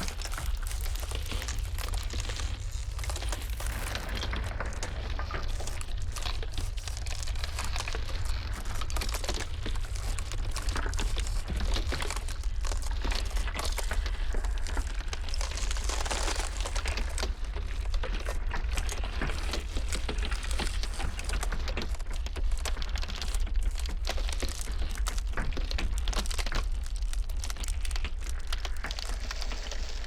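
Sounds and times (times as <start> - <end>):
blizzard wind rumble: 0.0 - 25.0
ice cracking: 0.0 - 30.0.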